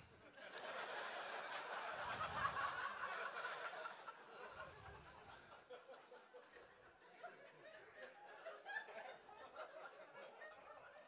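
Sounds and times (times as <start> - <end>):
audience laughing: 0.2 - 11.0.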